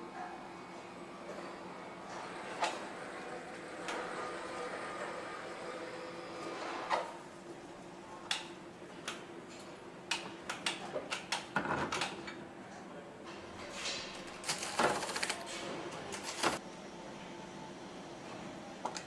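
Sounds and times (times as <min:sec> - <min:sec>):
factory hum: 0:00.0 - 0:19.0.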